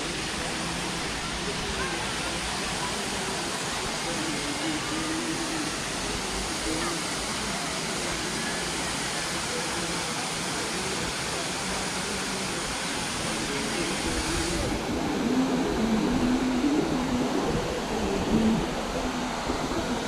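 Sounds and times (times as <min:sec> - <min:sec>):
faint voices: 0:00.0 - 0:20.0
waterfall rushing: 0:00.0 - 0:20.0.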